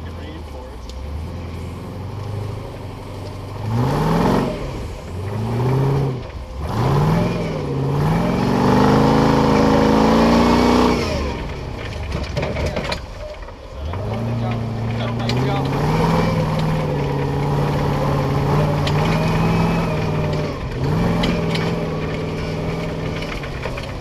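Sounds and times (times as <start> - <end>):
vehicle engine idling and revving: 0.0 - 24.0.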